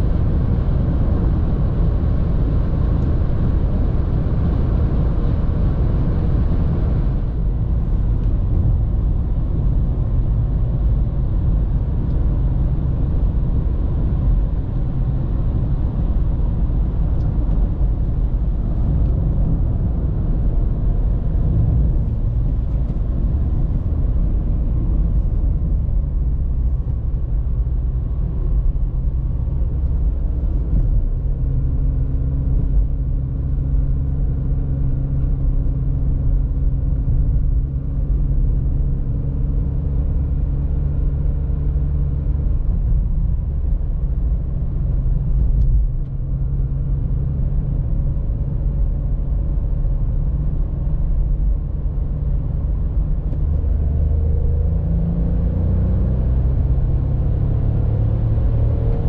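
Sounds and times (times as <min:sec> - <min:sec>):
car engine running: 0:00.0 - 0:59.0
road and tyre rumble: 0:00.0 - 0:59.0.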